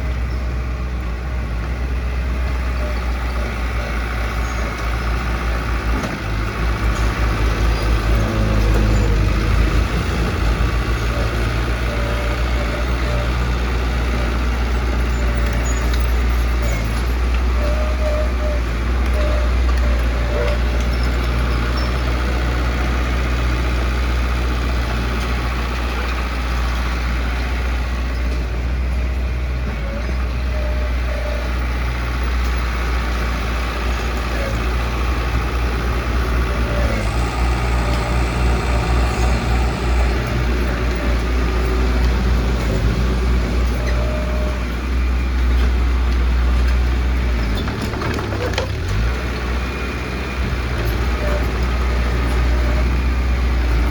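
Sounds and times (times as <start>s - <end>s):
heavy diesel machinery rumbling: 0.0s - 53.9s.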